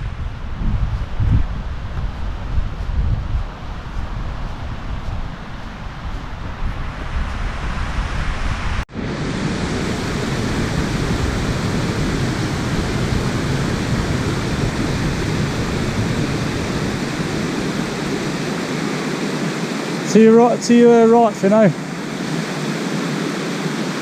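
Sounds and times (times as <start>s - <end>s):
wind buffeting microphone: 0.0s - 20.1s.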